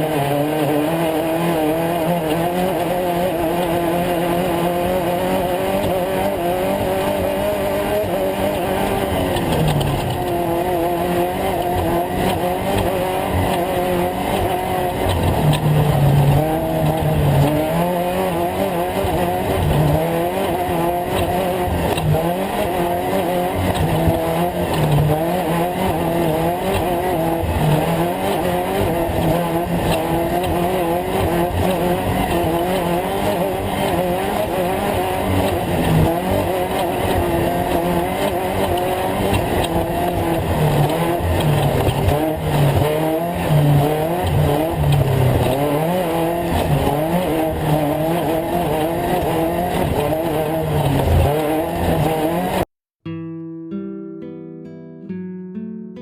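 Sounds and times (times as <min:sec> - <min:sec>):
truck engine revving: 0:00.0 - 0:52.7.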